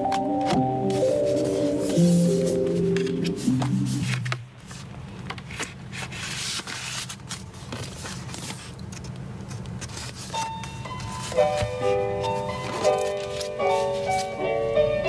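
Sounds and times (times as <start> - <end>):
hands handling cardboard and paper: 0.4 - 14.4.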